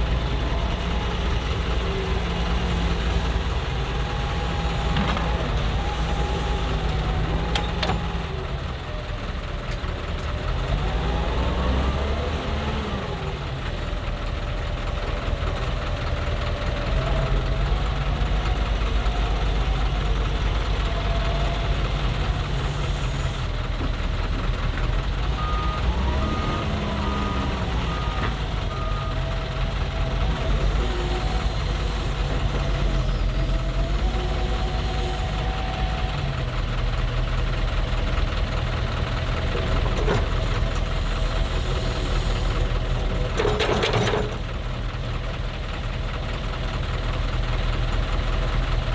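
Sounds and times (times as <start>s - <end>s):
heavy diesel engines running: 0.0s - 48.9s.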